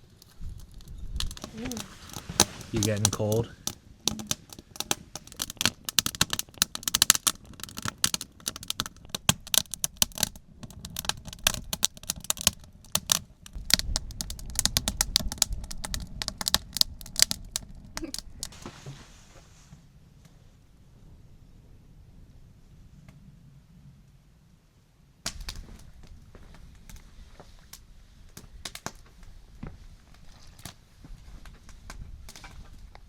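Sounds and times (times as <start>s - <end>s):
wood fire crackling and popping: 0.0s - 19.0s, 25.2s - 33.0s.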